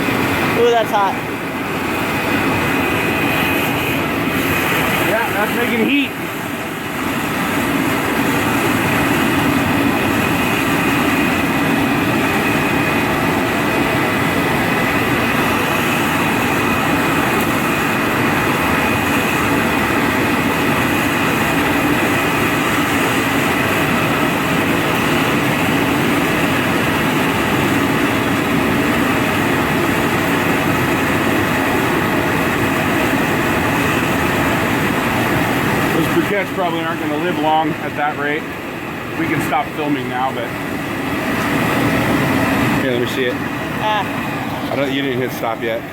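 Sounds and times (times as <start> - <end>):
blower whining: 0.0 - 45.9.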